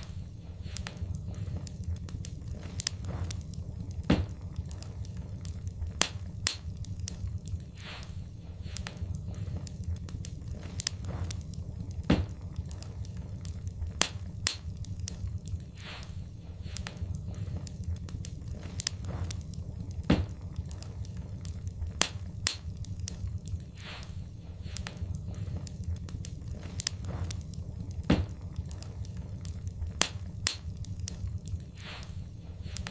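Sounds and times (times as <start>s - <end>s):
low fire rumble: 0.0s - 32.9s
wood fire crackling and popping: 0.0s - 32.9s.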